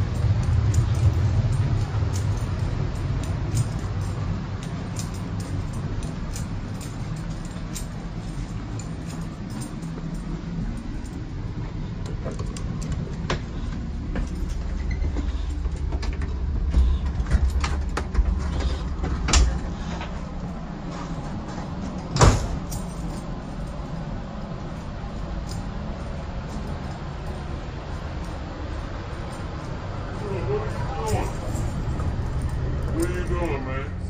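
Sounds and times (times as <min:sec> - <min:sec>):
rail car low rumble: 0:00.0 - 0:34.0.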